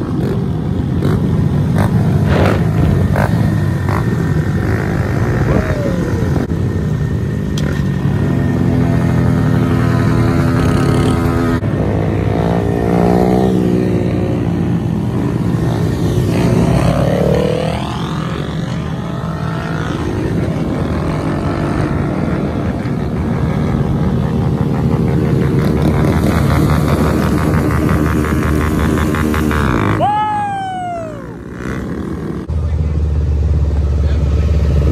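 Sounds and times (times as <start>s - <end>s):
small motorcycles revving: 0.0s - 34.9s.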